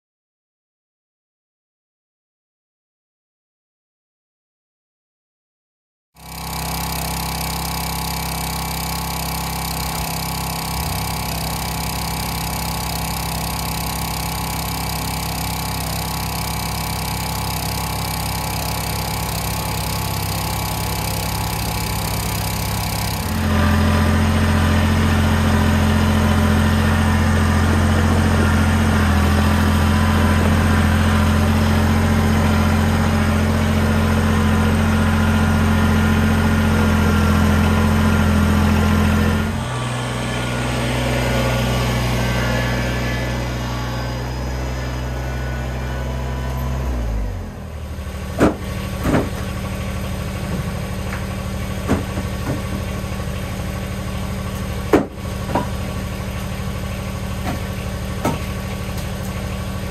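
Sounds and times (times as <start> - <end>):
tractor diesel engine running: 6.2 - 59.9.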